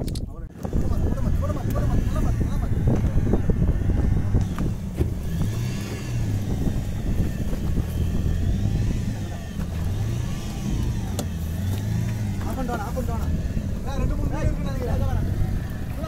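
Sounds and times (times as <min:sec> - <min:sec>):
boat engine running: 0:00.5 - 0:16.0.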